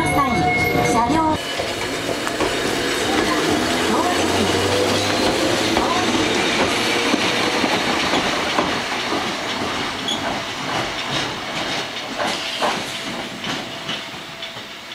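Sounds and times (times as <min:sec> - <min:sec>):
tram running noise: 0:00.0 - 0:14.9.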